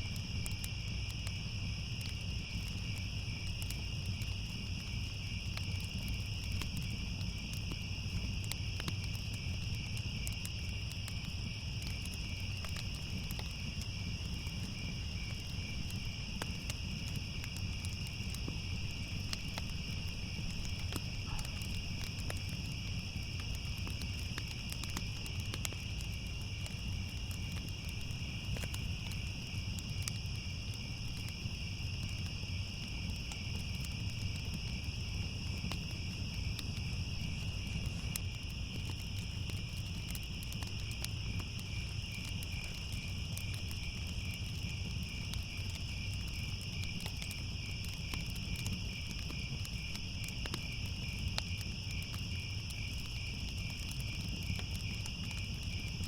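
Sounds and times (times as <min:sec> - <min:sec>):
crickets trilling: 0:00.0 - 0:56.0
wood fire crackling: 0:00.0 - 0:56.0.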